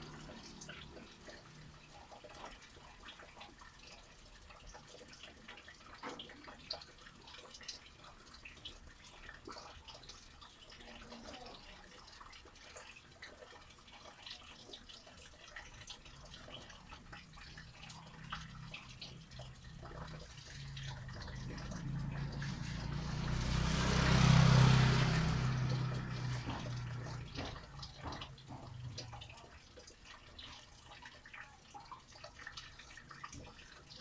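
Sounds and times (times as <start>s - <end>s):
rainwater dripping: 0.0s - 34.0s.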